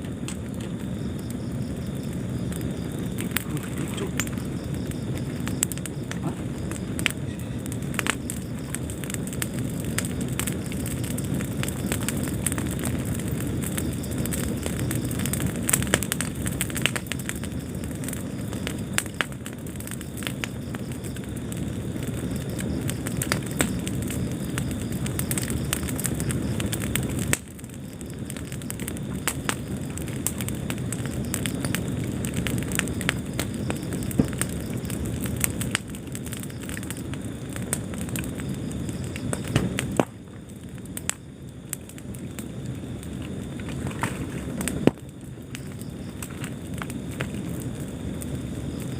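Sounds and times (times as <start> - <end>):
fire crackling and popping: 0.0 - 48.9
fire flames rumbling: 0.0 - 48.9.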